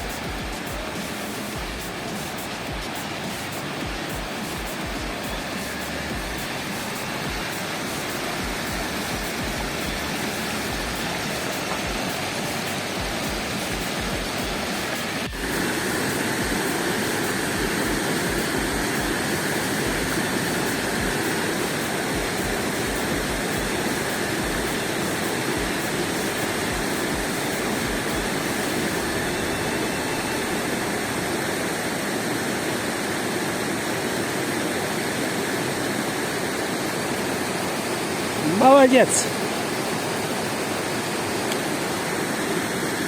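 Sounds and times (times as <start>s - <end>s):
mountain river rushing: 0.0s - 43.0s.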